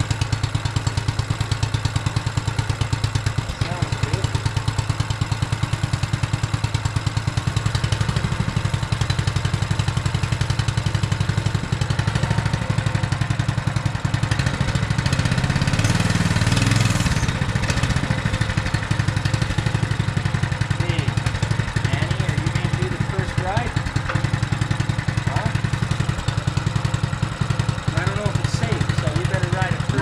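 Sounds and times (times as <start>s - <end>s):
mini bike engine idling: 0.0s - 30.0s
engine revving: 1.4s - 30.0s.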